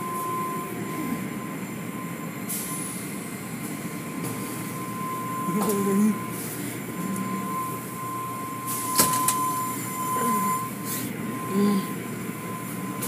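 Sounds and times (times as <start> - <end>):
car wash machinery humming: 0.0 - 13.0
high whine: 0.0 - 13.0.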